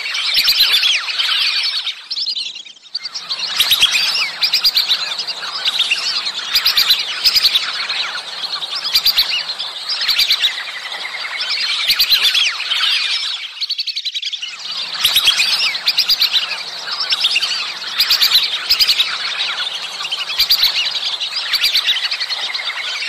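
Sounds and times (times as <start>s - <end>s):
ducks whistling: 0.0s - 13.6s, 14.2s - 23.0s.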